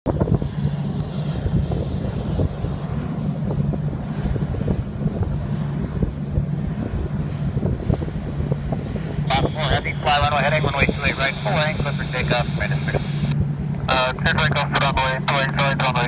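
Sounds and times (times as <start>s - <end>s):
jet engines droning: 0.1s - 16.0s
uneven low rumble: 0.1s - 16.0s.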